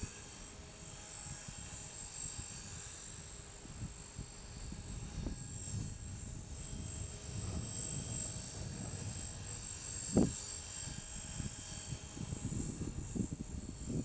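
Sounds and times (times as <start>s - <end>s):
rc helicopter whine: 0.0s - 14.0s
wind buffeting microphone: 0.0s - 14.0s.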